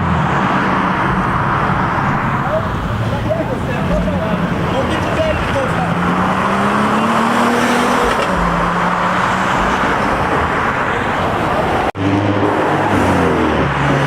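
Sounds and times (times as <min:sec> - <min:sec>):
steady rush of noise: 0:00.0 - 0:12.9
car engines running: 0:00.0 - 0:14.0.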